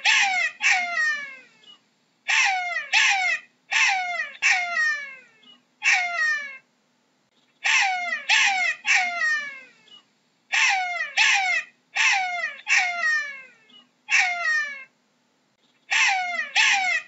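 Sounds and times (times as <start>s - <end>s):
jackal high calls: 0.0s - 6.6s, 7.6s - 14.9s, 15.9s - 17.0s.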